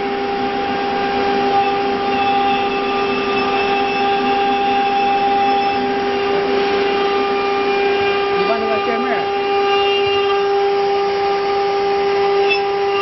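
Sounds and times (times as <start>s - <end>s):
cnc router whining: 0.0s - 13.0s.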